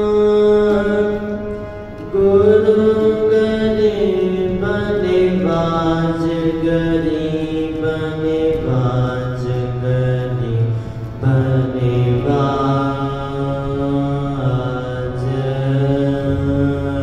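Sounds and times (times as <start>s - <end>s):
harmoniums playing: 0.0s - 17.0s.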